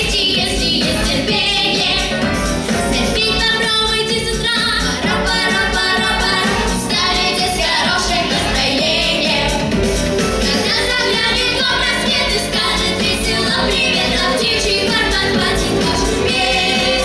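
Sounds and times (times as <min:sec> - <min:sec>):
backing track with steady beat: 0:00.0 - 0:17.0
vocal trio singing pop song: 0:00.0 - 0:17.0.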